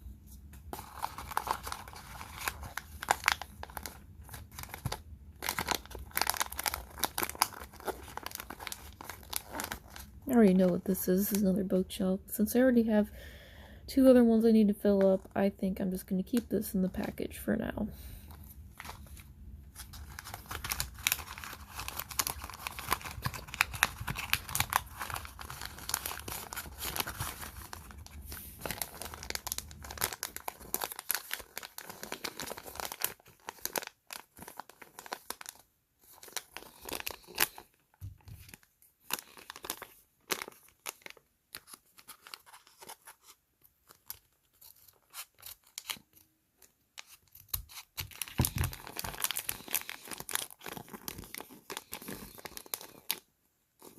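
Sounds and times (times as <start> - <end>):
plastic packaging crinkling: 0.7 - 11.7, 18.2 - 53.9.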